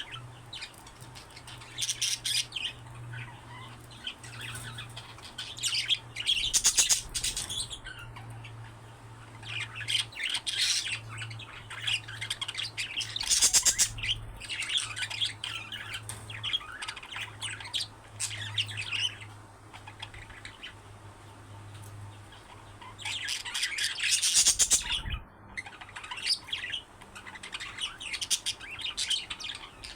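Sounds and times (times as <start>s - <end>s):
budgerigars chattering: 0.0s - 20.8s, 22.2s - 29.9s.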